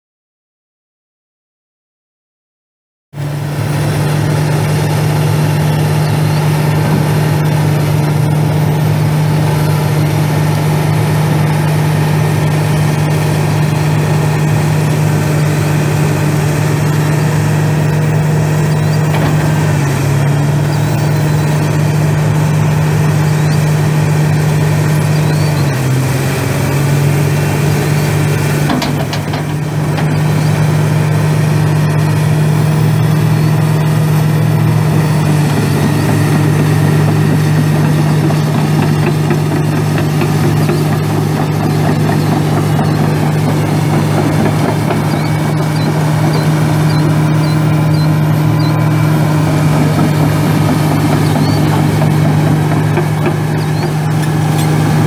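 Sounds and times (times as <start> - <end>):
diesel engine running: 3.2 - 55.0.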